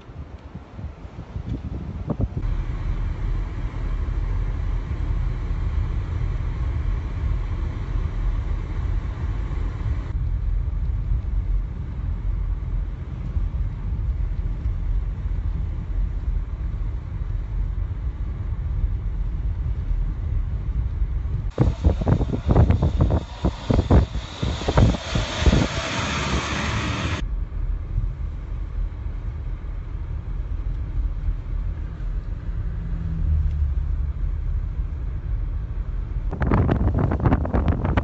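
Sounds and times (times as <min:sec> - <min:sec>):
blizzard wind buffeting microphone: 0:00.0 - 0:38.0.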